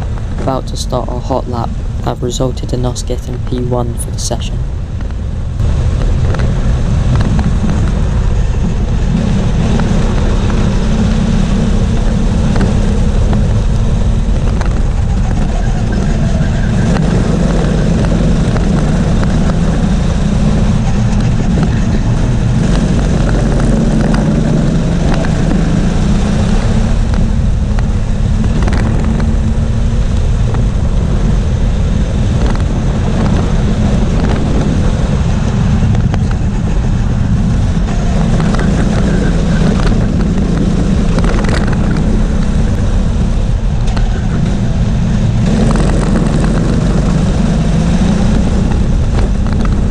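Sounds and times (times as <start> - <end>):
go-kart engine revving: 5.6 - 49.9.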